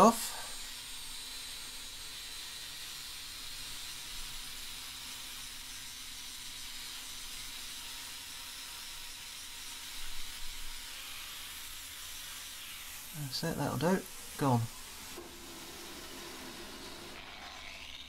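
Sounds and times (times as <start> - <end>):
angle grinder grinding metal: 0.0 - 18.0.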